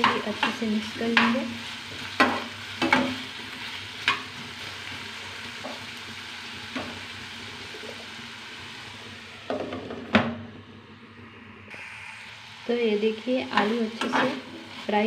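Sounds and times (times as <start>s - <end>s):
potatoes and onion sizzling in pan: 0.0s - 10.5s, 11.7s - 15.0s.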